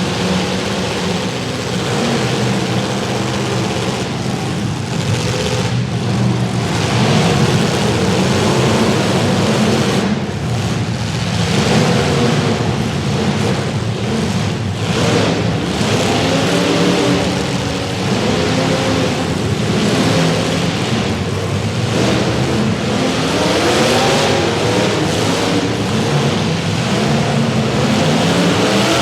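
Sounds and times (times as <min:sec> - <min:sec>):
car engines revving loudly: 0:00.0 - 0:29.0.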